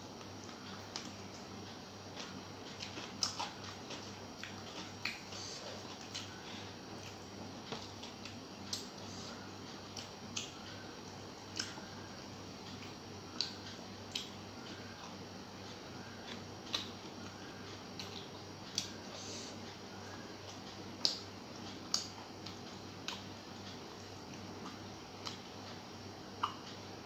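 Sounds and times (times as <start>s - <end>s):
low steady hum: 0.0s - 27.0s
person chewing food: 0.2s - 27.0s.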